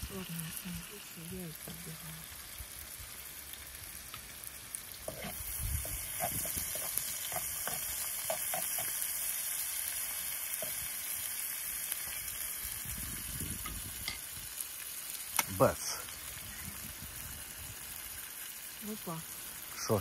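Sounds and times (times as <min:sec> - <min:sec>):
eggs sizzling in a pan: 0:00.0 - 0:20.0.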